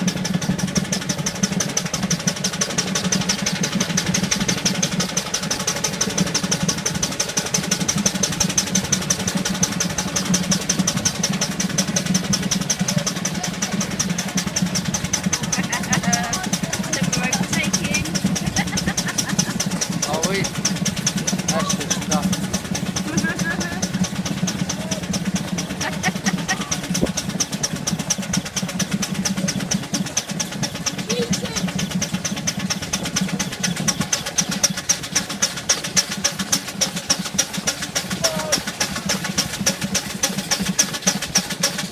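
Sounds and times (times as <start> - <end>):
steam traction engine chuffing: 0.0 - 41.9.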